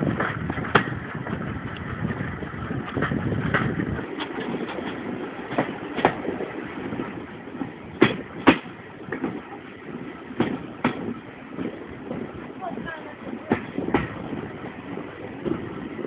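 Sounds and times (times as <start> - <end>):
railway carriage rumble: 0.0 - 16.0
wheels clicking over rail joints: 0.0 - 16.0.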